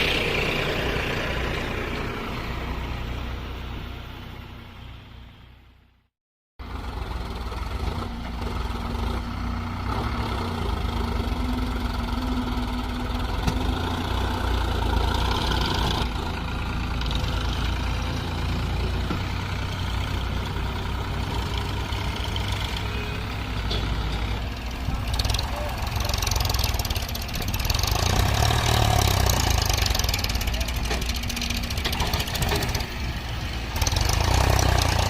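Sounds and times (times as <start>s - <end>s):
tractor diesel engine running: 0.0s - 6.0s, 6.6s - 35.0s.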